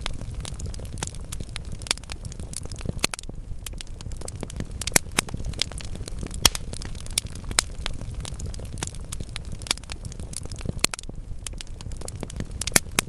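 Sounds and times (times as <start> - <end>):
fire burning in a fireplace: 0.0 - 13.0
logs crackling and snapping: 0.0 - 13.0.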